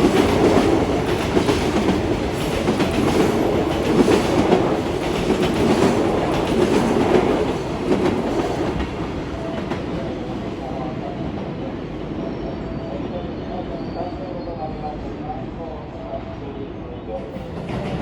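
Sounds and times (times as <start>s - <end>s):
train passing rumble: 0.0s - 18.0s.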